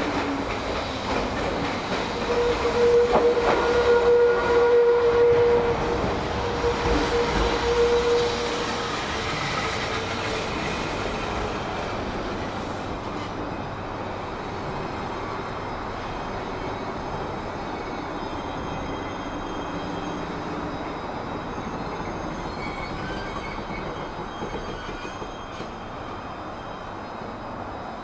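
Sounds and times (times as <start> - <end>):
train rolling noise: 0.0 - 28.0
train whine: 0.0 - 28.0.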